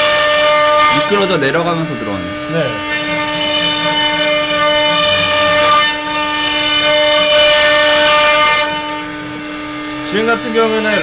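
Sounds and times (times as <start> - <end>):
router bit rasping through wood: 0.0 - 11.0
router spindle whining: 0.0 - 11.0.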